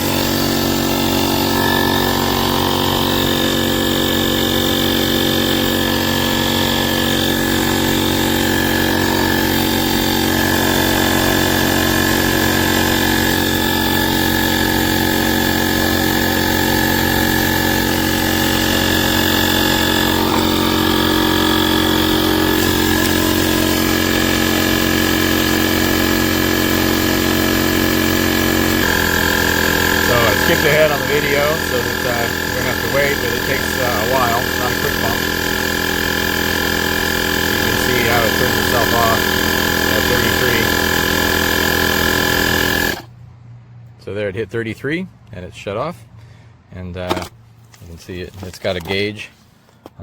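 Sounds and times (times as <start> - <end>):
tire inflator compressor running: 0.0 - 43.7.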